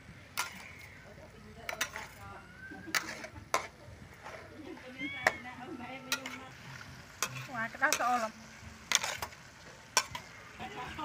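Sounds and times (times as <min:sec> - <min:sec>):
metal spatula scraping wok: 0:00.3 - 0:11.0.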